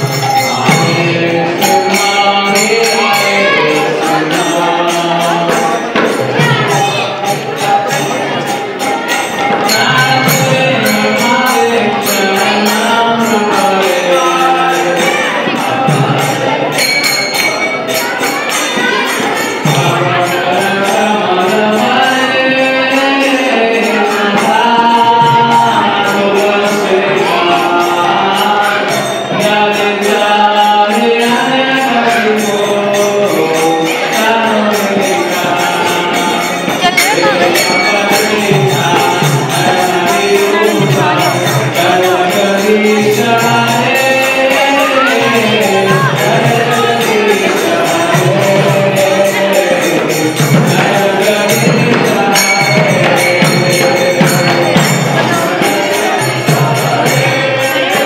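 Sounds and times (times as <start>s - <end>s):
jingling metal percussion: 0.0s - 58.0s
voices singing a chant: 0.0s - 58.0s.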